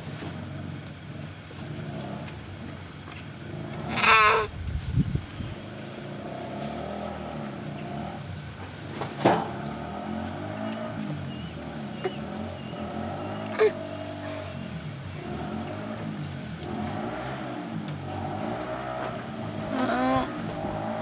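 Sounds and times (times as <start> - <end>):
motor engine running: 0.0 - 21.0.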